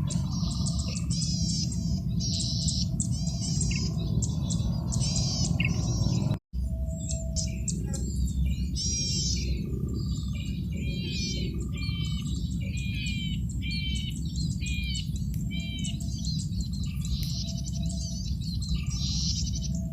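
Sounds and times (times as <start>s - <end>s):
bird singing buzzy phrases: 0.0s - 19.9s
low background rumble: 0.0s - 19.9s.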